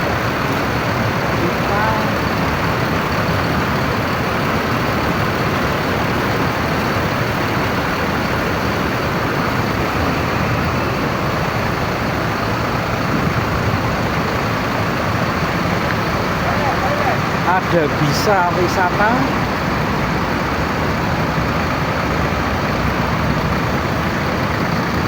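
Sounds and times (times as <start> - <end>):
bus engines idling: 0.0 - 25.0
traffic: 0.0 - 25.0.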